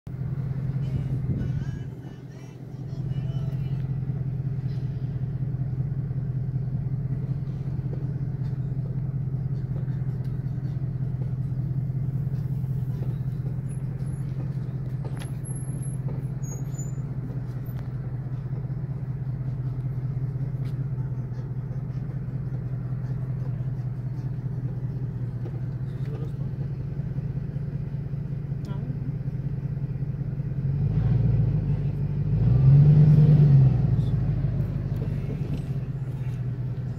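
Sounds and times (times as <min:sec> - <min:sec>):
engine and road hum: 0:00.0 - 0:36.9.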